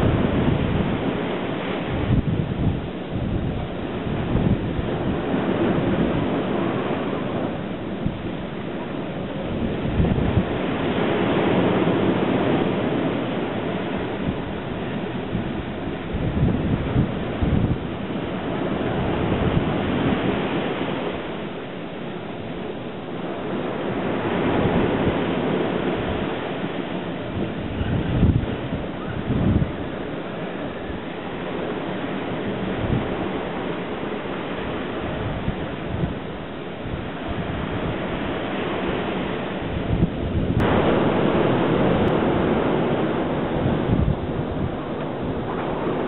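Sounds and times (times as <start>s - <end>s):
surf washing on shore: 0.0s - 46.0s
wind buffeting microphone: 0.0s - 46.0s.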